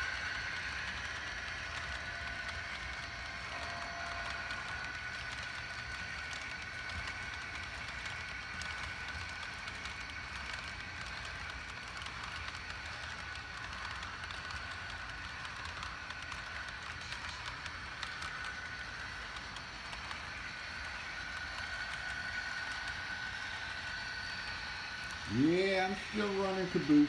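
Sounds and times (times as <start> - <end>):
model train motor whine: 0.0 - 27.0
wheels rumbling on rails: 0.0 - 27.0.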